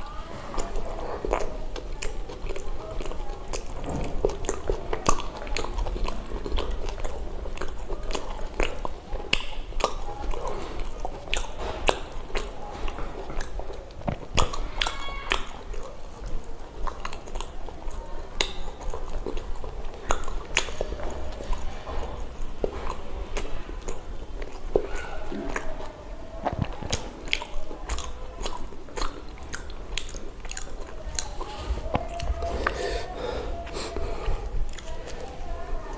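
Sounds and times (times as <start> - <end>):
wet chewing and biting: 0.0 - 35.9.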